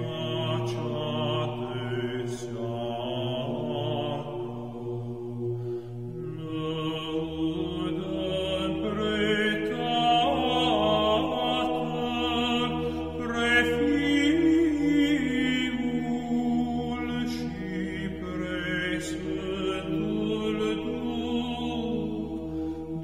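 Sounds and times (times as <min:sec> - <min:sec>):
low held drone: 0:00.0 - 0:23.0
voices chanting slow melody: 0:00.0 - 0:23.0.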